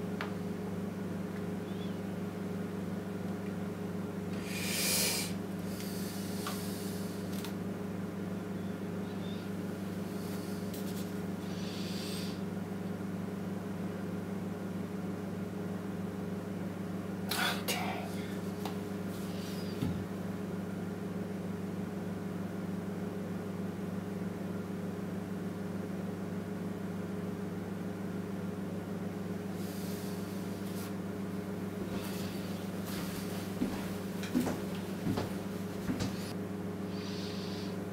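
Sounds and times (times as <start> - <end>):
low electrical hum: 0.0 - 37.9.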